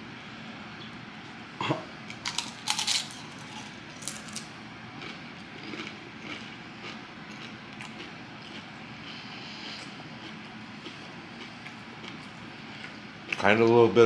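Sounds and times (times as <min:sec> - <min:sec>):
chip crunching and chewing: 0:02.1 - 0:13.5.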